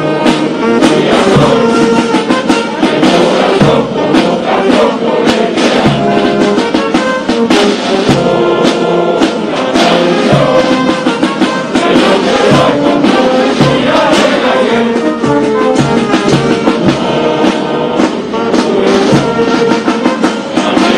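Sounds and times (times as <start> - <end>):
brass: 0.0 - 20.9
drum beat: 0.0 - 20.9
voices singing together: 0.0 - 20.9.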